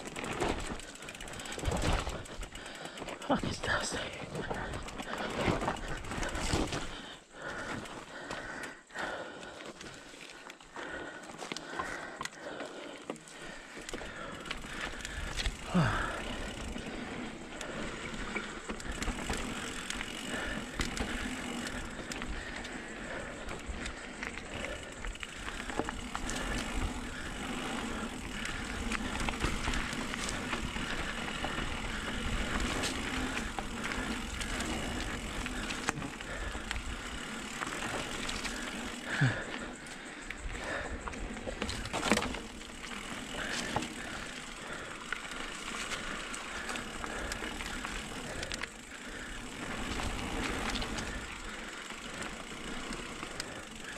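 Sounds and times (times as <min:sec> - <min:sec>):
bike rattling over bumps: 0:00.0 - 0:53.9
tyres crunching over dirt: 0:00.0 - 0:53.9.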